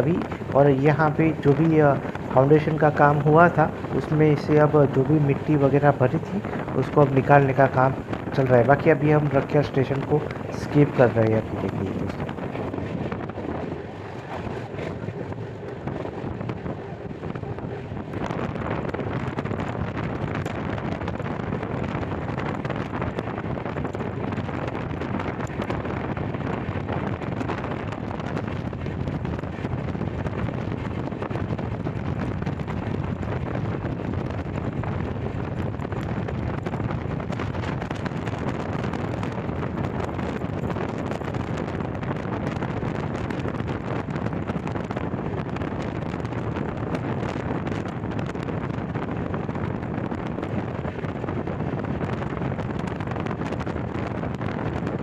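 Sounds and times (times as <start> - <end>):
train running rumble: 0.0 - 55.0
wind buffeting microphone: 0.0 - 55.0.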